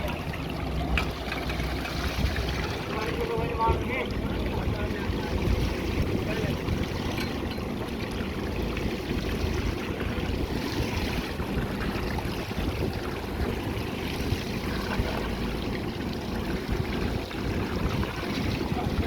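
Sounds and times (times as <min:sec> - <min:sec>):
low engine rumble: 0:00.0 - 0:19.0
rushing water: 0:00.0 - 0:19.0.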